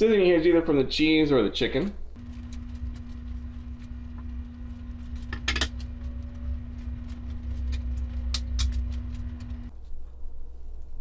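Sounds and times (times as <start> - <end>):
steady low hum: 2.0 - 11.0.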